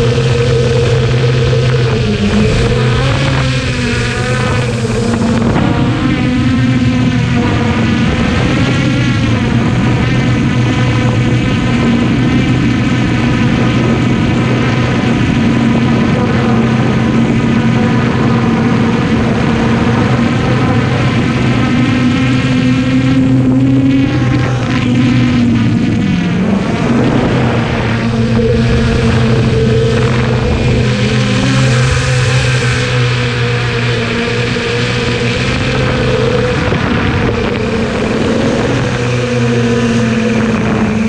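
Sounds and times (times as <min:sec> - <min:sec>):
drone motors and propellers whining: 0:00.0 - 0:41.0.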